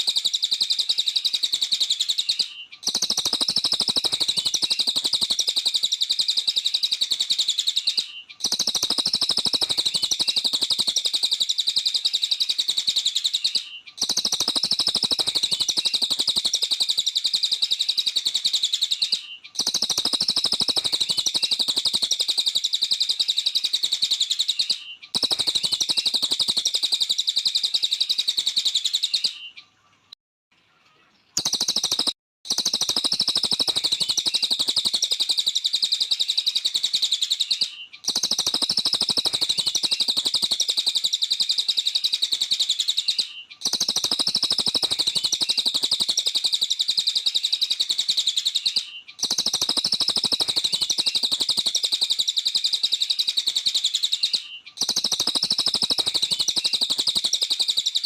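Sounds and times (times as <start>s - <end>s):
songbird chirps and trills: 0.0s - 58.0s.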